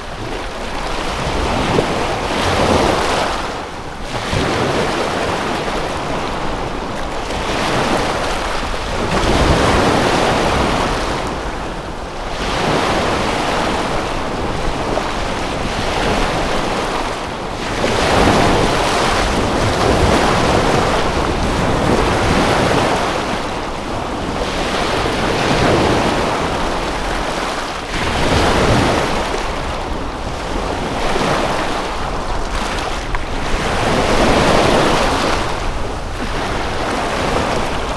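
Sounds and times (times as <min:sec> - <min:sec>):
waves washing on shore: 0:00.0 - 0:37.9
wind: 0:00.0 - 0:37.9.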